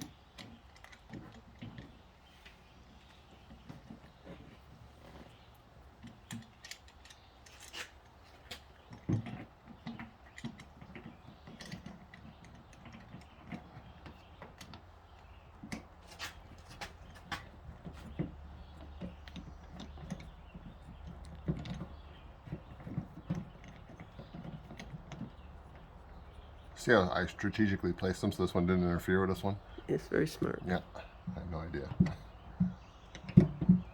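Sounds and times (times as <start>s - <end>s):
small hard parts clicking: 0.0s - 2.7s, 3.3s - 28.5s.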